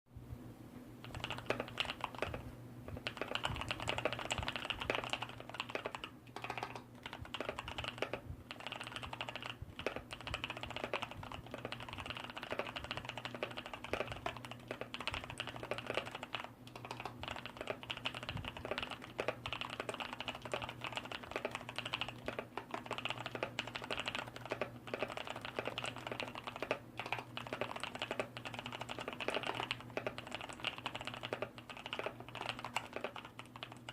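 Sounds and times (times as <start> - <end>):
faint low hum: 0.2 - 33.9
fast mechanical keyboard typing: 1.0 - 33.9.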